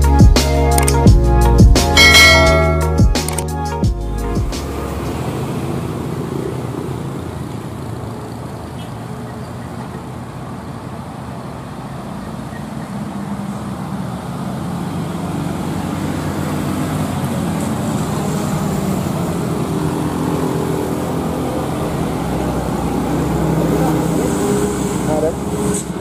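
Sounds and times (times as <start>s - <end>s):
diesel truck engine climbing: 0.0s - 26.0s
passing car traffic: 0.0s - 26.0s.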